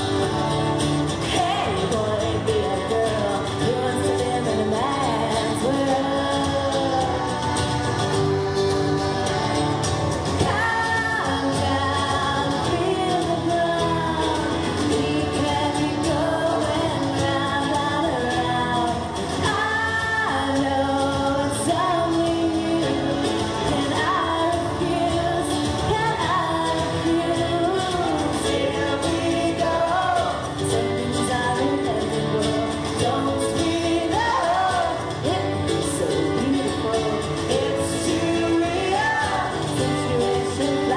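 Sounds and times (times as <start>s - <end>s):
acoustic band accompaniment: 0.0s - 40.9s
woman singing pop-rock song: 0.0s - 40.9s.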